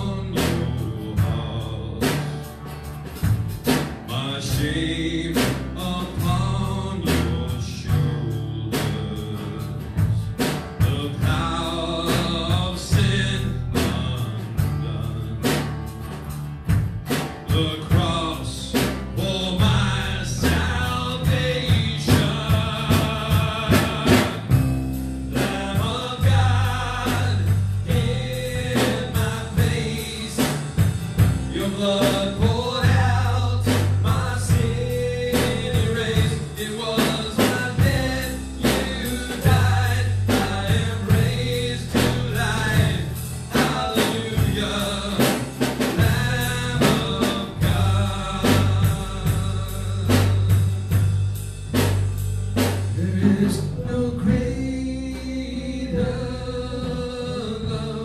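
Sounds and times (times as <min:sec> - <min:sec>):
drum kit beat: 0:00.0 - 0:57.9
acoustic guitar: 0:00.0 - 0:58.0
person singing: 0:04.1 - 0:09.8, 0:10.8 - 0:15.6, 0:17.5 - 0:24.6, 0:25.3 - 0:51.0, 0:52.9 - 0:58.0.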